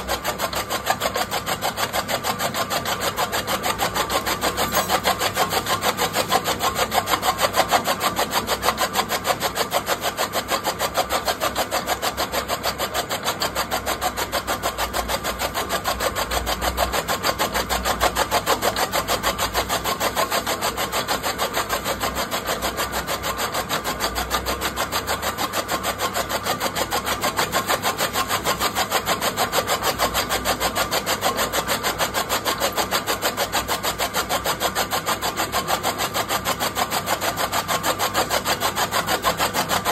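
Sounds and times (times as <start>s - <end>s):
chaff cutter chopping stalks: 0.0s - 39.9s.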